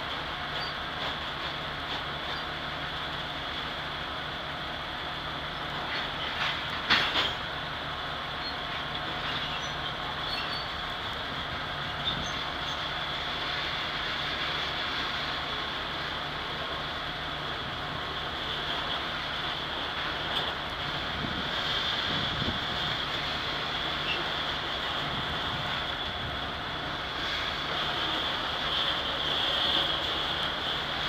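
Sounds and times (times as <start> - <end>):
steel train wheels on rail: 0.0 - 31.0.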